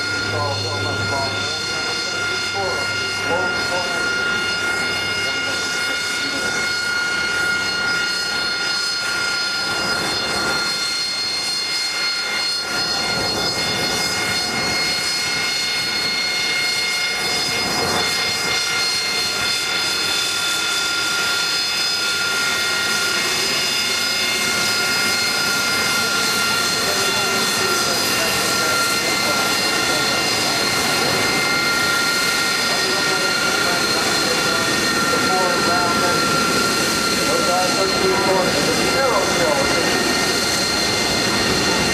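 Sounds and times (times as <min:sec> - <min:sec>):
jet engine whining: 0:00.0 - 0:41.9.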